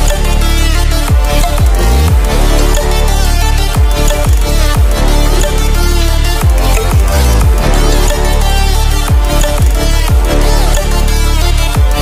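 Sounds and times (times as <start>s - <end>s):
dubstep electronic dance music: 0.0s - 12.0s.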